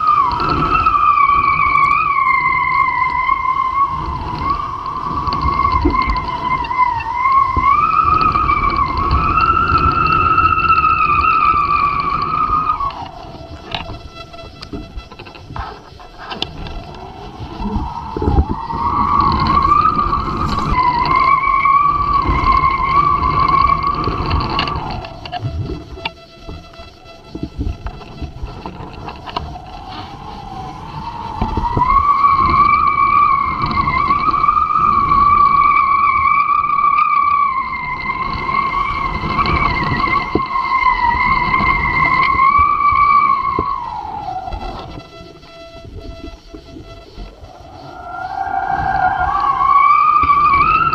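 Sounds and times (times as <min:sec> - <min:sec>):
low wind rumble: 0:00.0 - 0:50.9
wavering whistling tone: 0:00.0 - 0:50.9.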